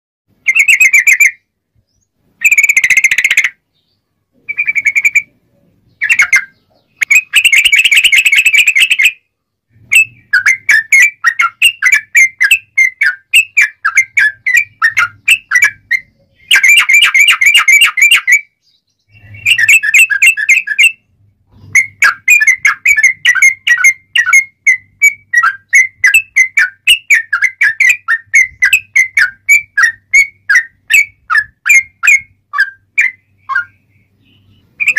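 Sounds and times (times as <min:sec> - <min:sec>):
bulbul singing: 0:00.3 - 0:34.9.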